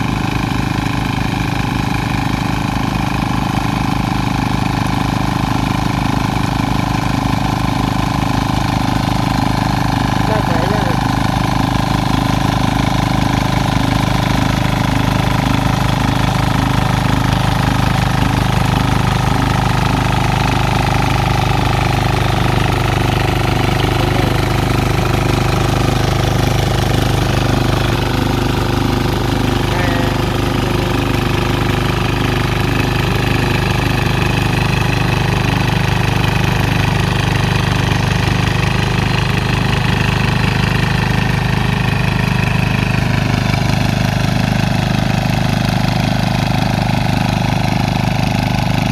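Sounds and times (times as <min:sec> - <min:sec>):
small diesel tiller engines: 0:00.0 - 0:48.9.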